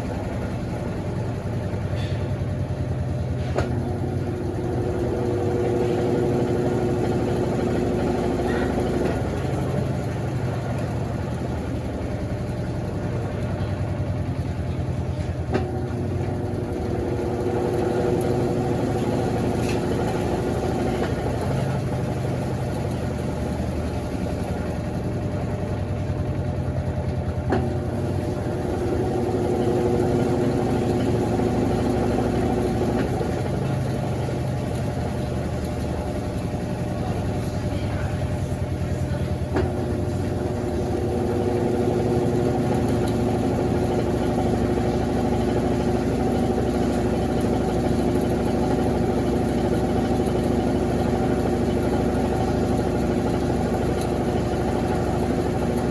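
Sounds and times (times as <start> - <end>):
motor whine: 0.0 - 55.9
washing machine hum: 0.0 - 55.9.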